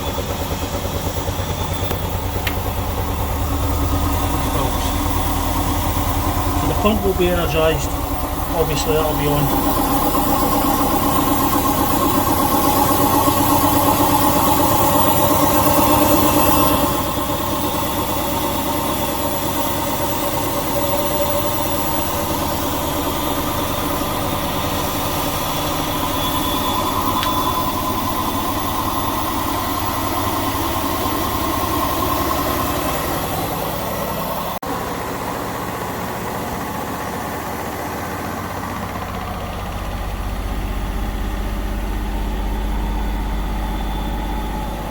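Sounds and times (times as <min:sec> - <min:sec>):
washing machine spinning: 0:00.0 - 0:44.9.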